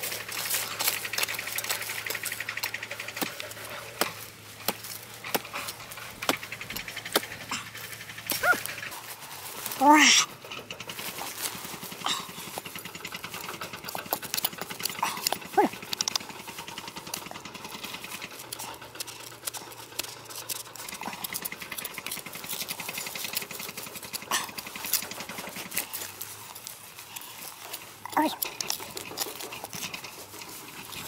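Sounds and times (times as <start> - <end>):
trowel scraping dry soil: 0.0 - 31.0.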